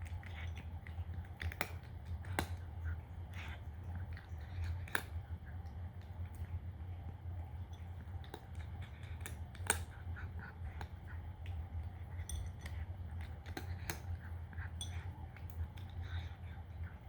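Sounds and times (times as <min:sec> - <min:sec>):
cat crunching dry food: 0:00.0 - 0:17.0
steady low hum: 0:00.0 - 0:17.0.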